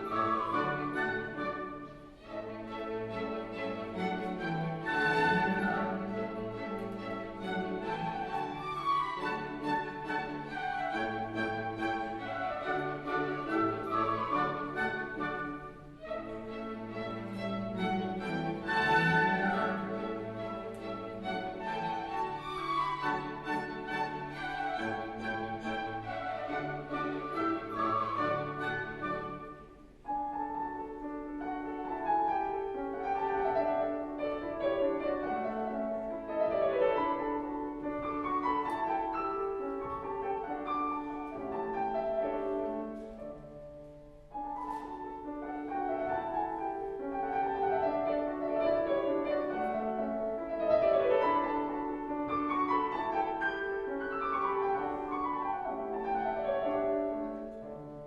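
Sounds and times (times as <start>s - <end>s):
classical piano music: 0.0s - 58.0s.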